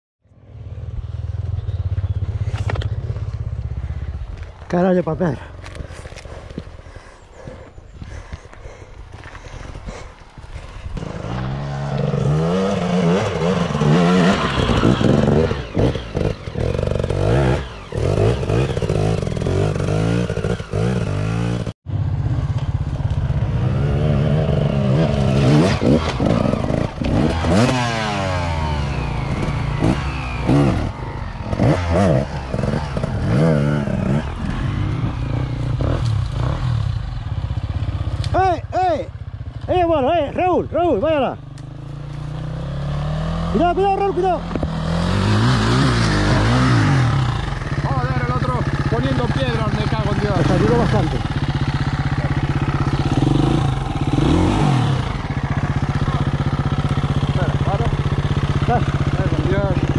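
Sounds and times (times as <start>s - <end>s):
dirt bike engines revving: 0.4s - 59.9s.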